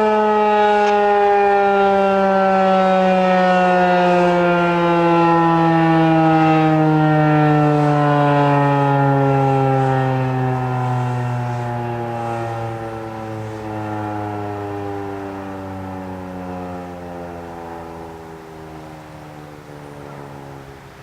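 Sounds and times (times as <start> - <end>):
warning siren winding down: 0.0 - 21.0.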